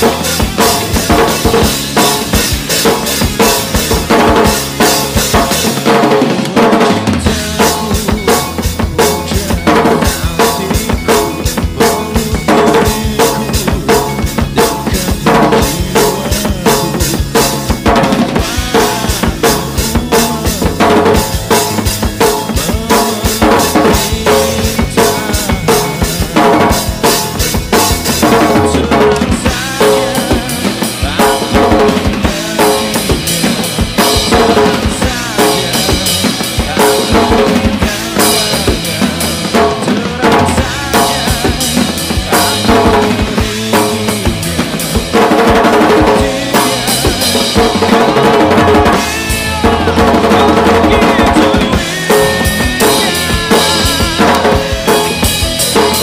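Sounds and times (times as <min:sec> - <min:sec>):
drum kit played fast: 0:00.0 - 0:56.0
rock backing track: 0:00.0 - 0:56.0.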